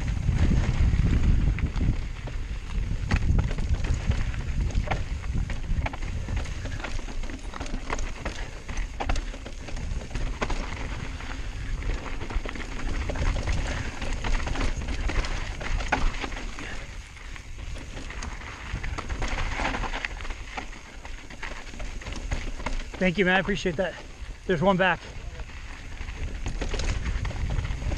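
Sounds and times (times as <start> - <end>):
wind rumble on microphone: 0.0 - 23.2, 24.1 - 27.9
bike knocking and rattling: 0.0 - 27.9
bike tyres rolling over stones: 0.0 - 27.9.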